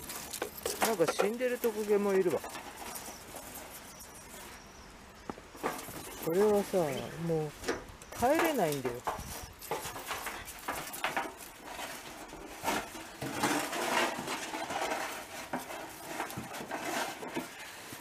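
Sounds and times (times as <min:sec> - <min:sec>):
dry leaves rustling: 0:00.0 - 0:18.0.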